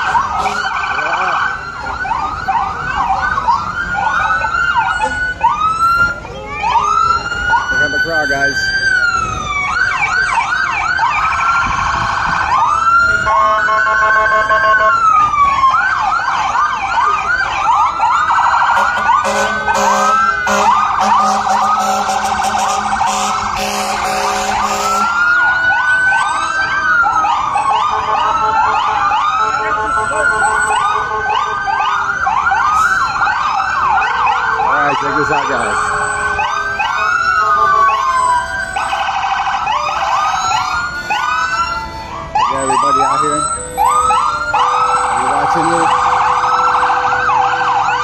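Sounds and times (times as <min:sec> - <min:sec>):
emergency vehicle sirens: 0:00.0 - 0:48.0.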